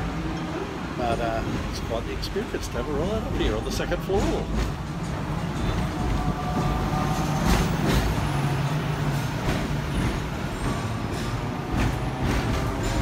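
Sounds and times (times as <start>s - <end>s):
road traffic passing: 0.0s - 13.0s
tram clacks and rattles: 0.0s - 13.0s
tram rumbling hum: 0.0s - 13.0s.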